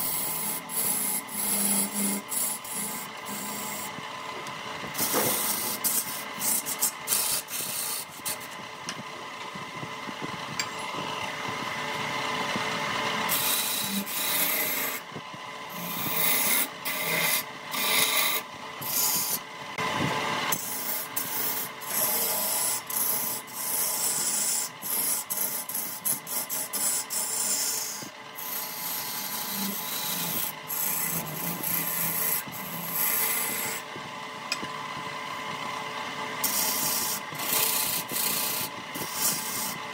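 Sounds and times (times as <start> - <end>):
tool scratching spinning wood: 0.0 - 34.7, 35.5 - 39.9
wood lathe humming: 0.0 - 39.9.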